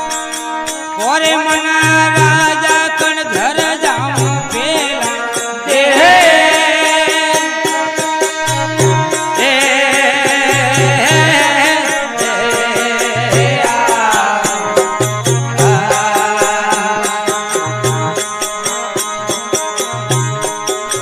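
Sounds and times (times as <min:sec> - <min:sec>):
percussion strokes: 0:00.0 - 0:21.0.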